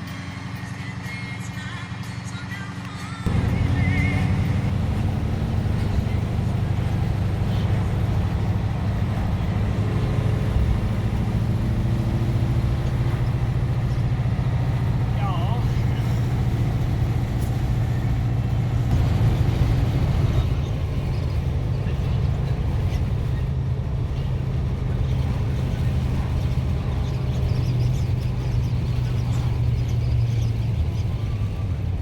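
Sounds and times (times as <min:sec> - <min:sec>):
diesel truck engine hum: 0:00.0 - 0:32.0.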